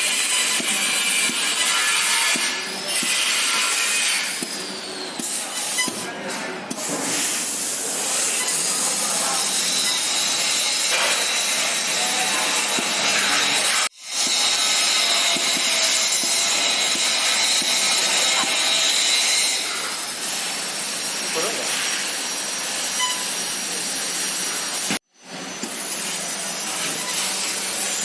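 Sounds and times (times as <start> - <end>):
laser cutter hiss and whine: 0.0 - 28.0.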